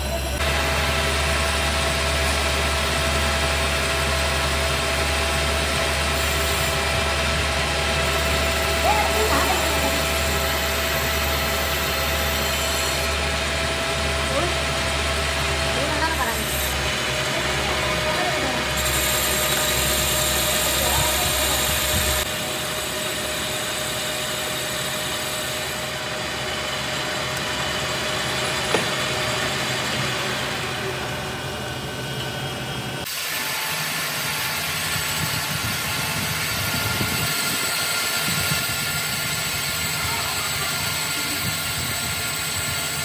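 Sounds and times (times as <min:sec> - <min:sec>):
metal lathe machining: 0:00.0 - 0:43.0.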